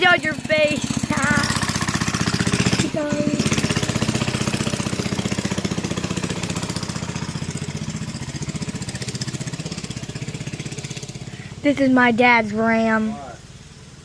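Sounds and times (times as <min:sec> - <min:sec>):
small engine puttering: 0:00.0 - 0:14.0.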